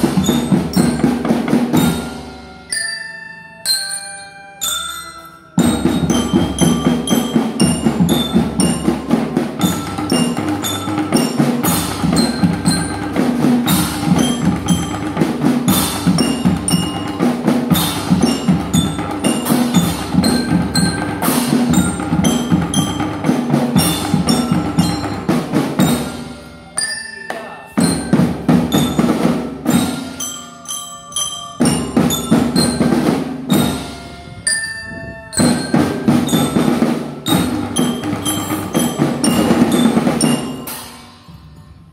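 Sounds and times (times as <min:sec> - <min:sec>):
marching drums beat: 0:00.0 - 0:02.6, 0:05.6 - 0:30.6, 0:31.5 - 0:40.8
bell lyres playing melody: 0:00.0 - 0:41.9.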